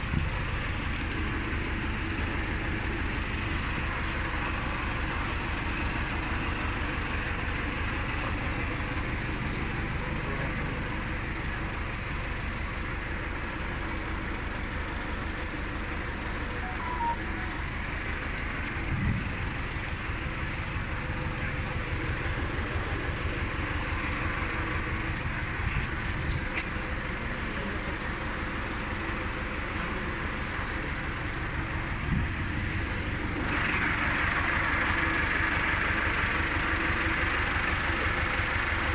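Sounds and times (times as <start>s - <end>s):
tractor engine: 0.0s - 38.9s.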